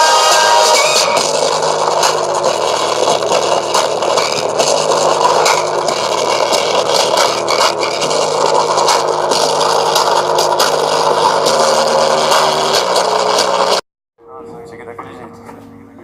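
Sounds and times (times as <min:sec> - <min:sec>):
distorted music through small speaker: 0:00.0 - 0:16.0.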